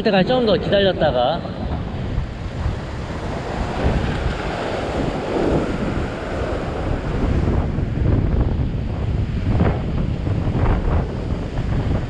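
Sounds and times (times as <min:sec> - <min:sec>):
surf washing against rocks: 0:00.0 - 0:12.0
wind buffeting microphone: 0:00.0 - 0:12.0.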